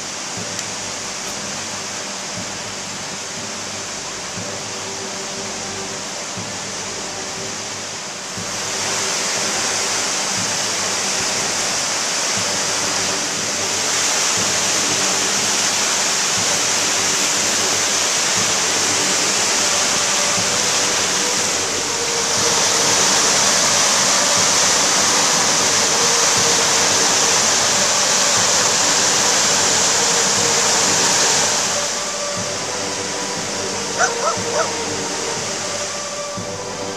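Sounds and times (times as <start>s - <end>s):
river rushing through rapids: 0.0s - 36.9s.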